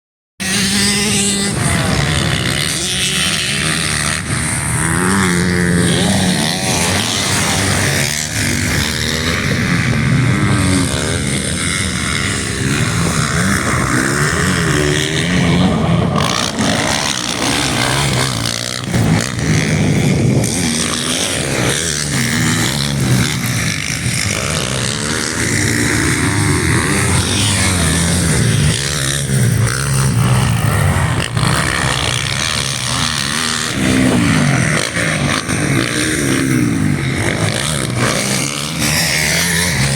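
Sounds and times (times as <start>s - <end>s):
motorcycle engine revving: 0.4s - 39.9s.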